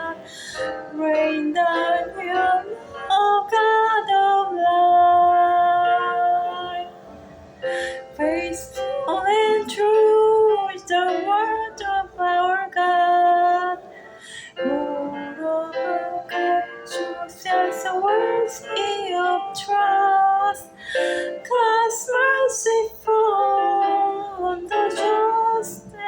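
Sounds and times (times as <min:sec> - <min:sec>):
woman singing slow melody: 0:00.0 - 0:07.0, 0:07.6 - 0:26.0.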